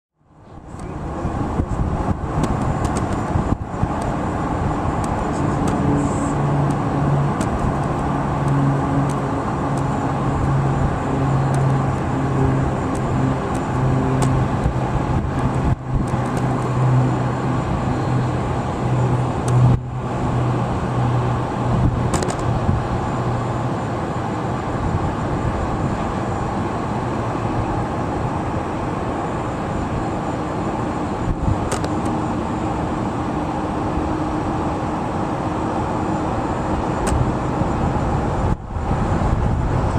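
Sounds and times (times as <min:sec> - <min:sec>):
outdoor noise: 0:00.1 - 0:39.9
low motor drone: 0:00.2 - 0:39.9.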